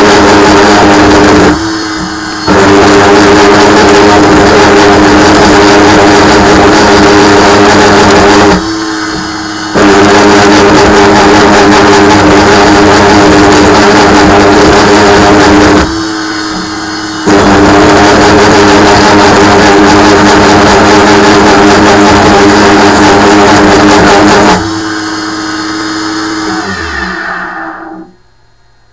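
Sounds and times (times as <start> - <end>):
end mill cutting steel: 0.0 - 28.2
spindle hum: 0.0 - 28.9.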